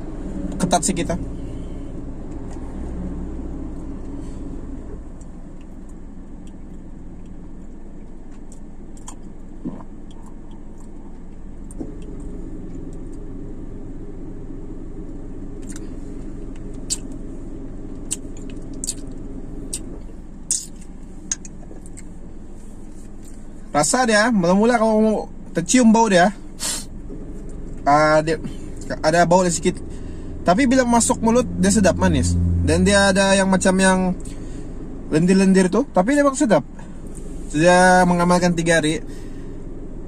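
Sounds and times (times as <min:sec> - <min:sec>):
car engine idling hum: 0:00.0 - 0:40.0.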